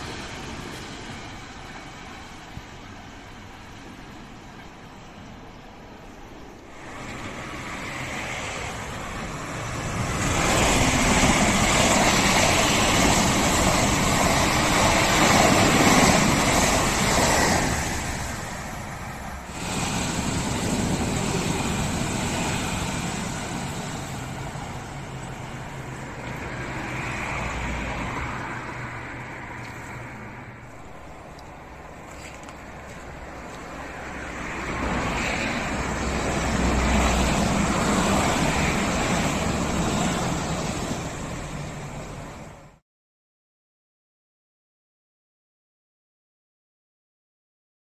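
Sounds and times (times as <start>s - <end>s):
train wheels rumbling on rails: 0.0s - 42.8s.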